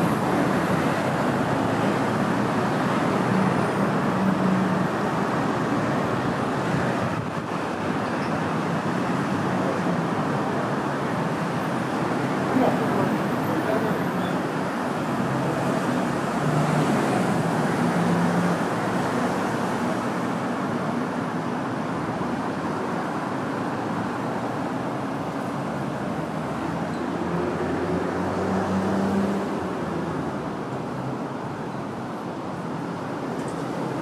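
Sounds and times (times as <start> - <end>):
street traffic: 0.0 - 34.0.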